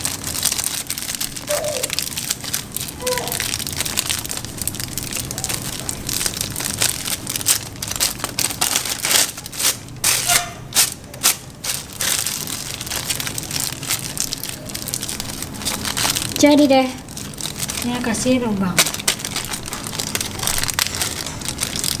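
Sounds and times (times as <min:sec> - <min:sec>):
plastic bag crinkling: 0:00.0 - 0:22.0.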